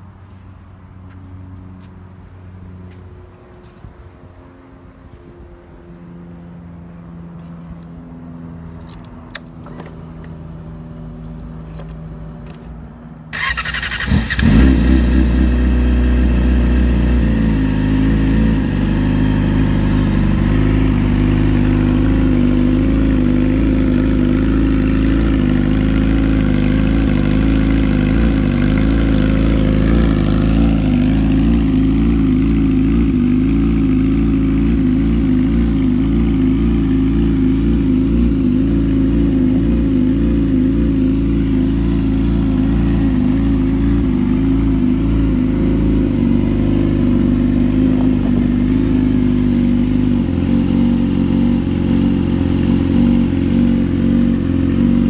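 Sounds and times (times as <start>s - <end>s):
motorcycle engine starting and idling: 8.7s - 55.0s.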